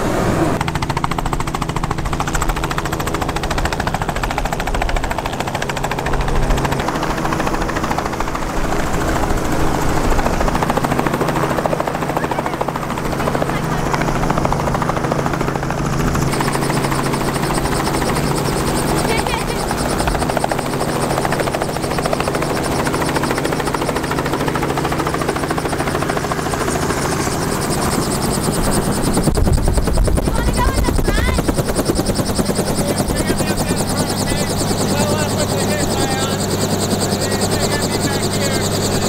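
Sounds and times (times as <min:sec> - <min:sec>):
helicopter rotor chop: 0:00.0 - 0:39.0.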